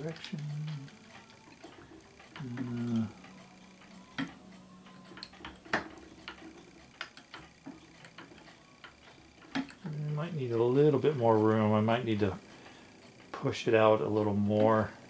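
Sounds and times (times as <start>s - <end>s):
screwdriver clicking on metal frame: 0.0s - 14.8s.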